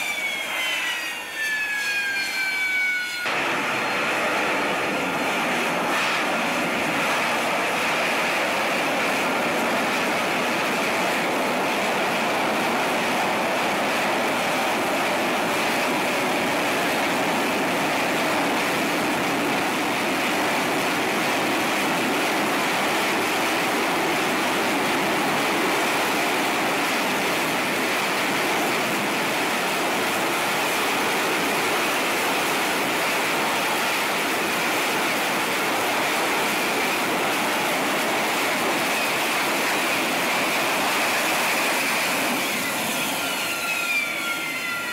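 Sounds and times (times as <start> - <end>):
jet engine roar: 0.0 - 44.9.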